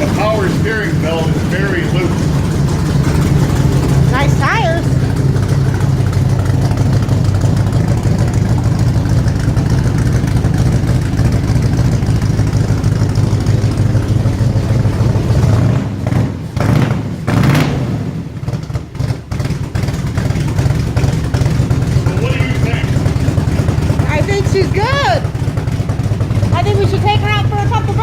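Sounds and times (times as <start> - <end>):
car engine exhaust idling: 0.0 - 28.0.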